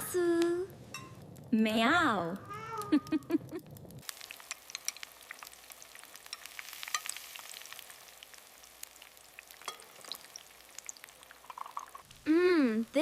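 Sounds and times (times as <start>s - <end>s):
cooking fire crackling: 0.0s - 13.0s.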